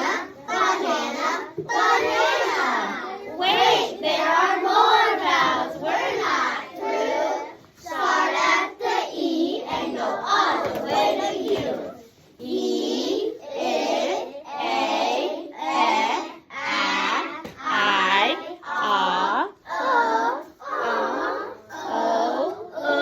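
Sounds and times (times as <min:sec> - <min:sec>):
voices chanting phonics sounds: 0:00.0 - 0:23.0.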